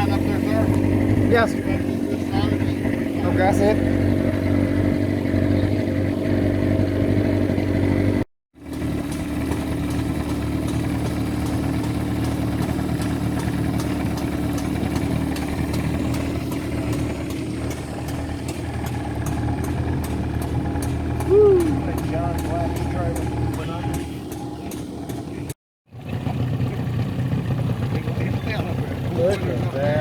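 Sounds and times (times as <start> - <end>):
motorboat engine running: 0.0 - 30.0.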